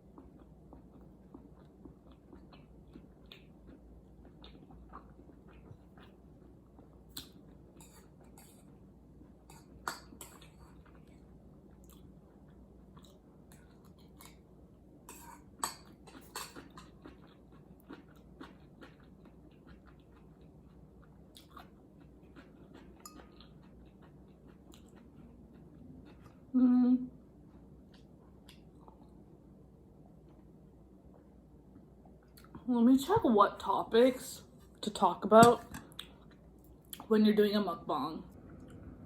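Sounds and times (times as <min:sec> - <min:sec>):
chewing and eating: 0:00.0 - 0:26.5, 0:27.2 - 0:29.4, 0:34.5 - 0:37.1.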